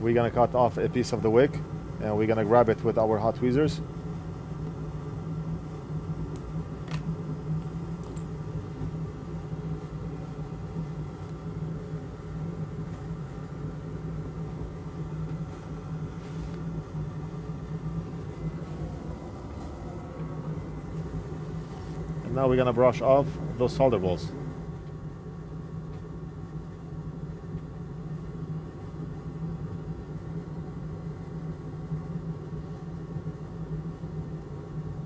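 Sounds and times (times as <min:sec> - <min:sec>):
small fan motor humming: 0:00.0 - 0:35.0.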